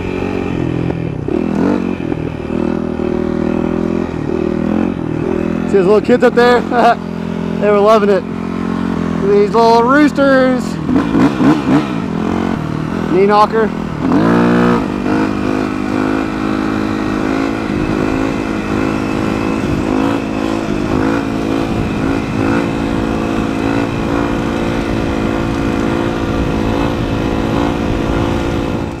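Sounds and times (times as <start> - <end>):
motorcycle engine at high revs: 0.0 - 29.0.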